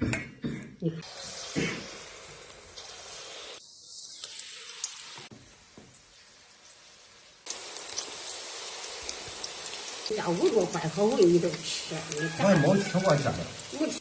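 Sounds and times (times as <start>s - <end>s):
fritters sizzling in hot fat: 1.0s - 14.0s.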